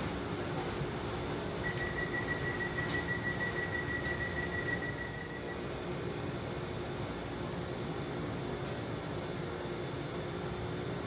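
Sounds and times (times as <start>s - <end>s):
railway platform background hum: 0.0s - 11.0s.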